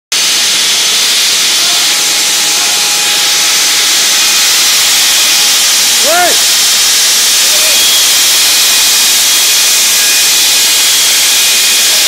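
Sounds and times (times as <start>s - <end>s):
core drilling rig hissing: 0.1s - 12.0s.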